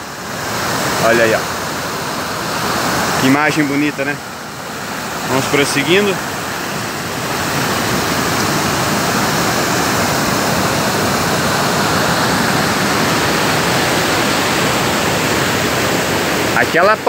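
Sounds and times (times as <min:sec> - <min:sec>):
waterfall rushing over rock ledges: 0:00.0 - 0:17.0.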